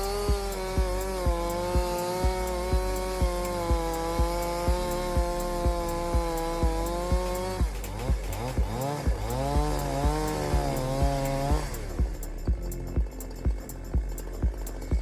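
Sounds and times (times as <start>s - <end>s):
chainsaw cutting through log: 0.0s - 12.4s
music with steady beat: 0.0s - 15.0s.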